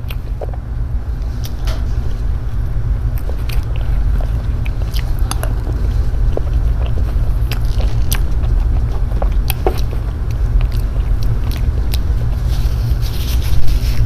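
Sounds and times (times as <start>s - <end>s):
chewing and wet mouth sounds: 0.0s - 14.0s
steady low rumble: 0.0s - 14.0s.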